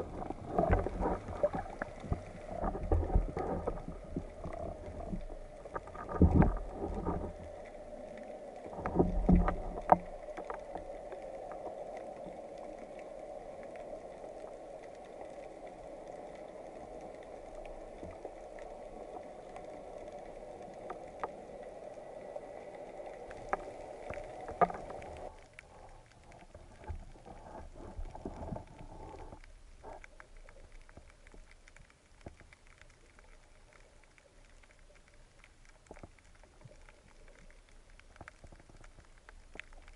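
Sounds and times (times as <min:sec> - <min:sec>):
underwater water noise: 0:00.0 - 0:39.9.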